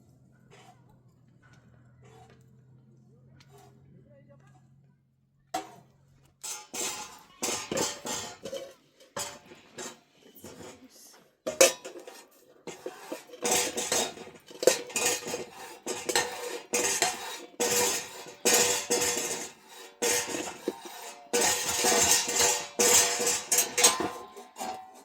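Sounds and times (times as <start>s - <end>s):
metal utensil scraping a pot: 0.5s - 0.8s, 2.0s - 2.4s, 3.4s - 3.8s, 5.6s - 5.8s, 6.4s - 25.0s.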